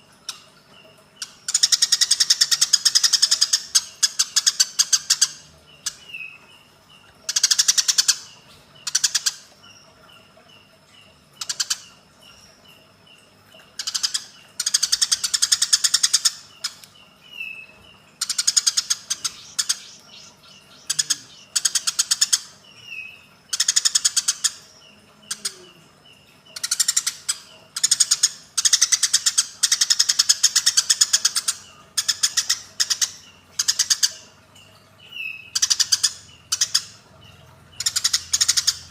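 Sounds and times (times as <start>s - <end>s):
sparrows chirping softly: 0.0s - 38.9s
sparrows harsh chattering: 0.0s - 38.9s.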